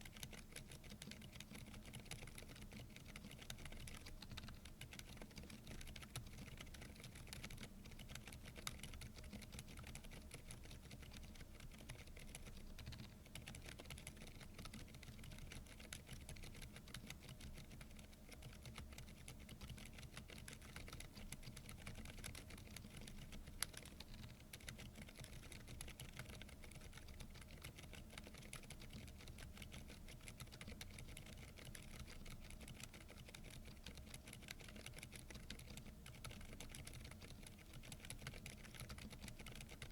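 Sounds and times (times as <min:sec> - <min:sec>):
soft keyboard typing: 0:00.0 - 0:39.9.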